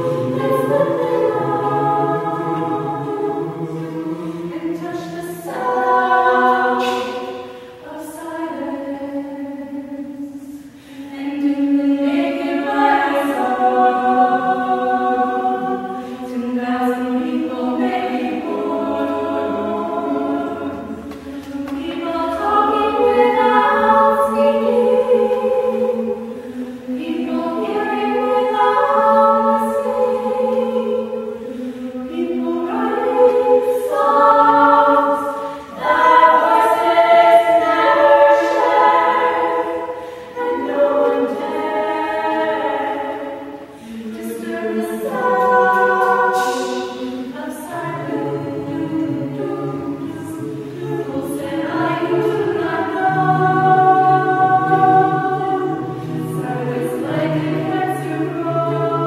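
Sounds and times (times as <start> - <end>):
choir singing long chords: 0.0 - 59.0.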